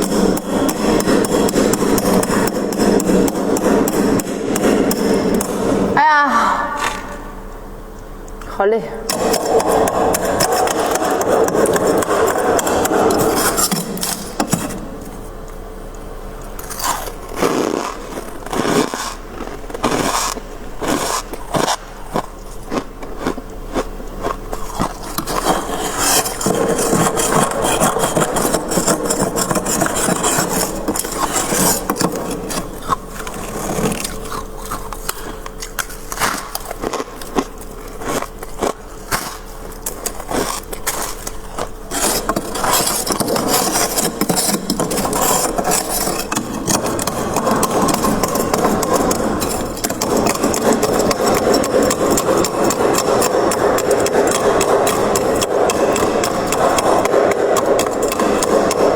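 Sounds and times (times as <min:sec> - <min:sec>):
frost scraping and crunching: 0:09.1 - 0:15.6, 0:16.4 - 0:58.9.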